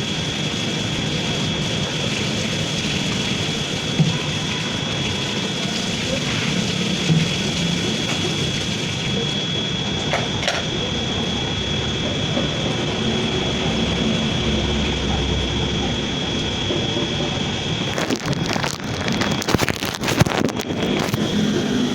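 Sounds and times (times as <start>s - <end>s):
machinery with high whine: 0.0s - 21.9s.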